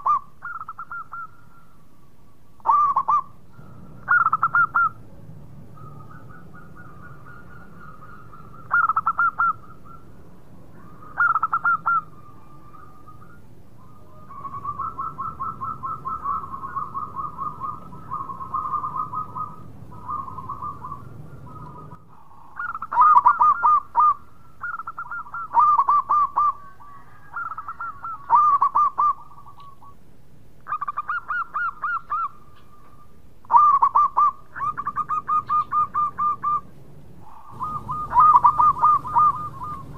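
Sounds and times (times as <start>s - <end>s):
dove cooing in staccato notes: 2.6s - 30.0s, 30.6s - 39.9s.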